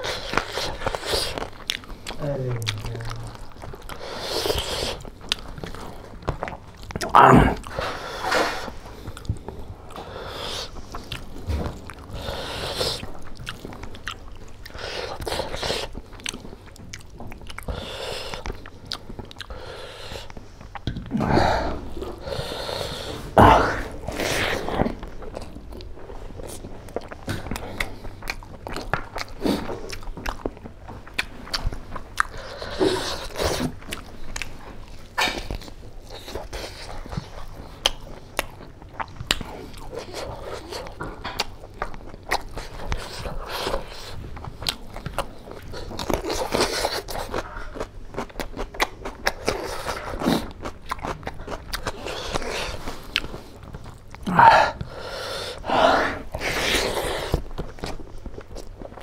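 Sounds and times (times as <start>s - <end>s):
chewing with wet mouth clicks: 0.0s - 21.1s, 24.1s - 55.7s, 56.3s - 59.0s.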